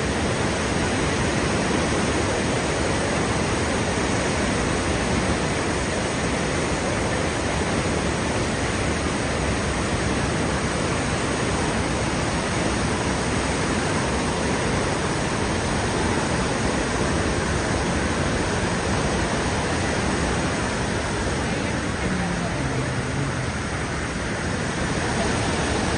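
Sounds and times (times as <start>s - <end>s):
waterfall roaring: 0.0s - 25.9s.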